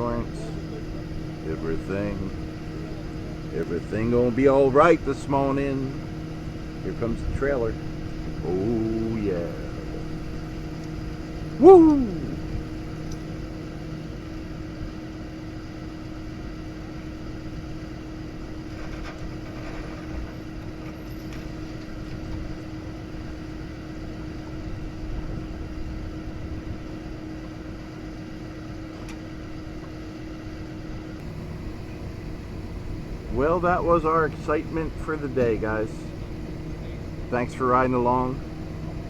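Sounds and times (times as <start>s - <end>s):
outdoor background noise: 0.0s - 39.0s
vehicle engine humming: 0.0s - 39.0s.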